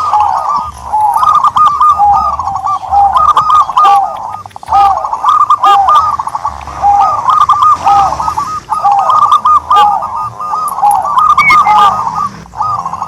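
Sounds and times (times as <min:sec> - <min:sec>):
turtledove cooing: 0:00.0 - 0:13.0.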